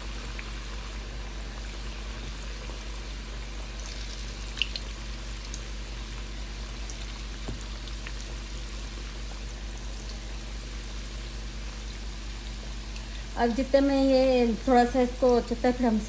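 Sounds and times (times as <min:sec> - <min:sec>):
chicken deep-frying in oil: 0:00.0 - 0:16.0.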